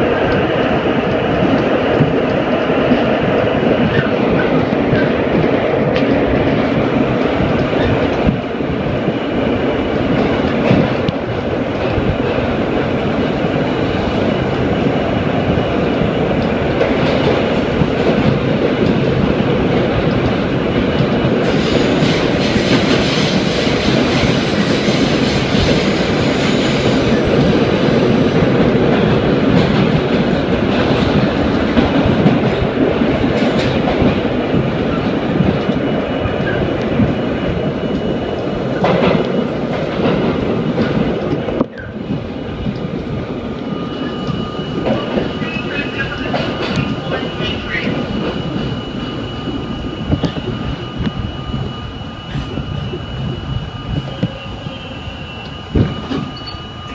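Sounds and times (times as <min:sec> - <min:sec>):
subway train rumbling in tunnel: 0:00.0 - 0:56.9.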